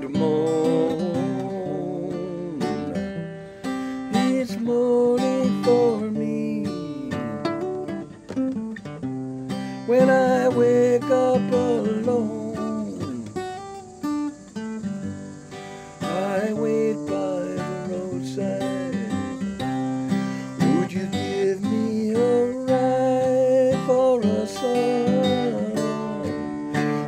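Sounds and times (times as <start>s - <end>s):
man singing long wordless notes: 0.0s - 7.8s, 9.8s - 13.7s, 15.9s - 27.0s
acoustic guitar strummed: 0.0s - 27.0s.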